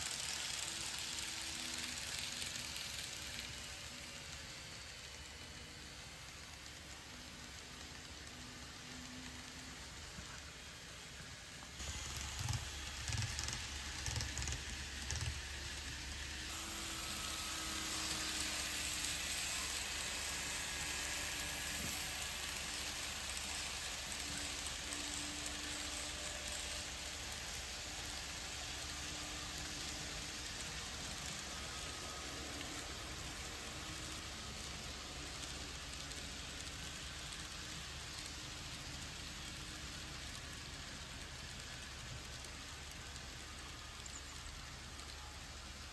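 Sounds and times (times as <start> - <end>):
model train wheels hissing on rails: 0.0 - 45.9.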